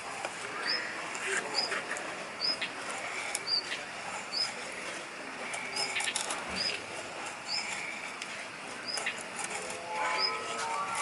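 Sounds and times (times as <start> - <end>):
short clicks and scrapes: 0.1 - 11.0.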